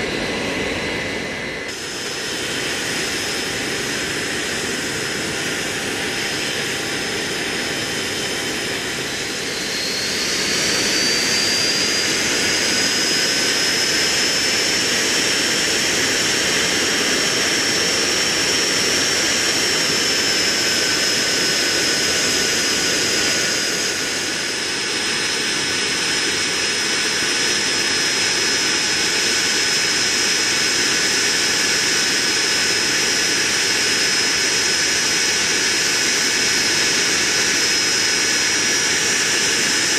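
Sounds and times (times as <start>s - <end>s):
high turbine whine: 0.0s - 39.9s
jet engine rush: 0.0s - 39.9s.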